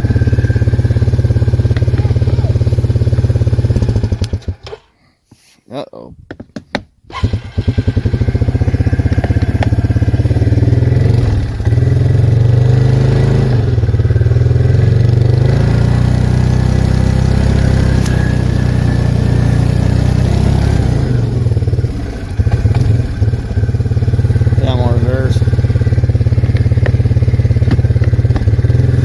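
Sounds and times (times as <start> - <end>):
atv engine revving: 0.0 - 4.8, 7.1 - 29.0.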